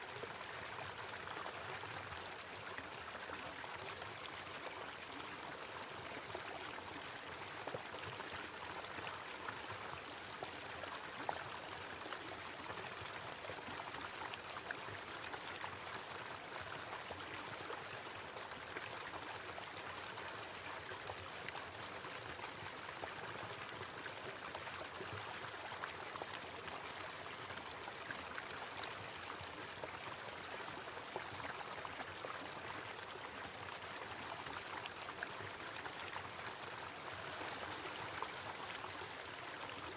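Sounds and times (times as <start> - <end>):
small waterfall splashing: 0.0 - 39.9
water drips and splashes: 0.2 - 39.9.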